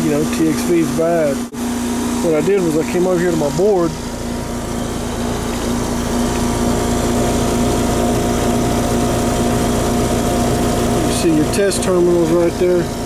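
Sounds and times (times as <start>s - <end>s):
heat pump unit humming: 0.0s - 13.0s.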